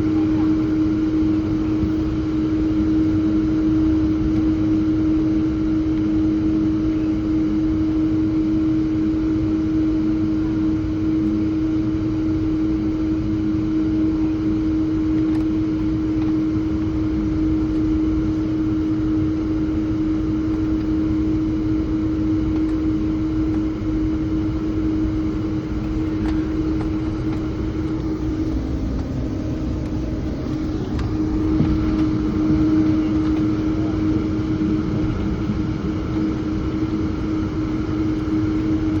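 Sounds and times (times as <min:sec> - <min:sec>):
aircraft engines rumbling: 0:00.0 - 0:39.0.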